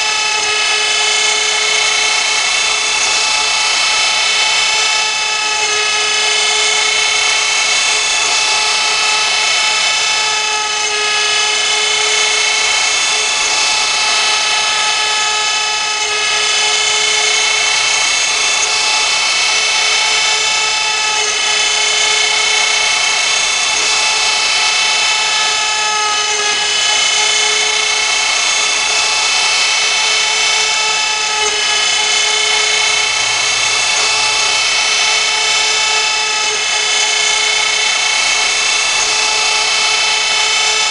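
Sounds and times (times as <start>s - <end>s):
hiss of cutting: 0.0s - 40.9s
router spindle whining: 0.0s - 40.9s.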